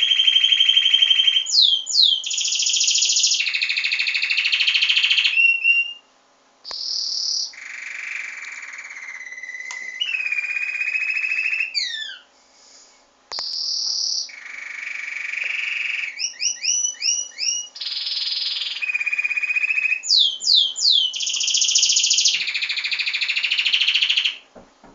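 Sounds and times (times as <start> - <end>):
bird singing trills and whistles: 0.0 - 6.1, 6.7 - 12.3, 13.3 - 24.4.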